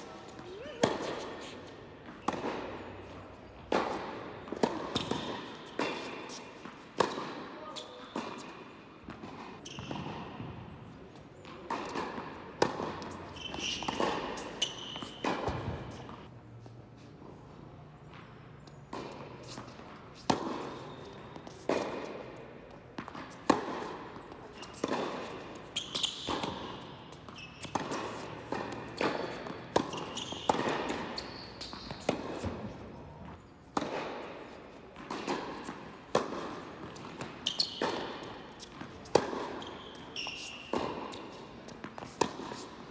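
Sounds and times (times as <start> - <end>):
rackets striking tennis ball: 0.0 - 16.3, 18.1 - 42.9.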